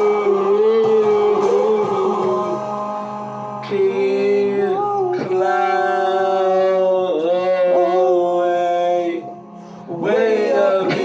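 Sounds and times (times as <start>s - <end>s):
men singing in harmony: 0.0s - 11.0s.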